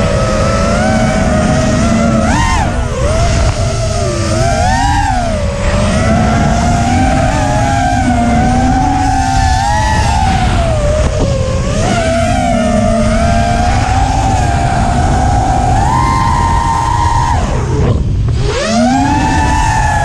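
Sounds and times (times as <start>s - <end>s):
drone motors whining: 0.0s - 20.0s
steady low rumble: 0.0s - 20.0s.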